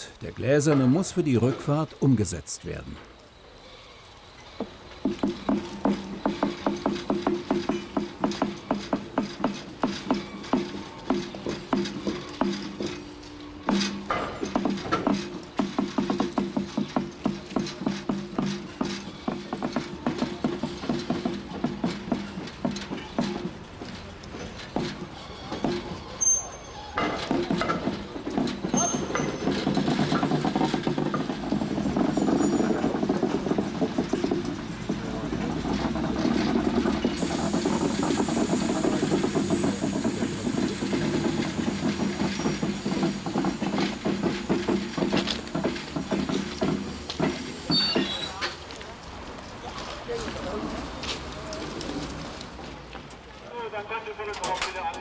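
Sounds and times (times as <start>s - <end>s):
rhythmic railcar clacking: 0.0s - 55.0s.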